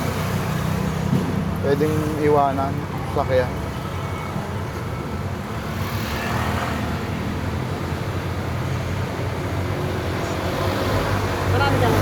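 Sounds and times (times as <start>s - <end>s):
road noise inside vehicle: 0.0s - 12.0s.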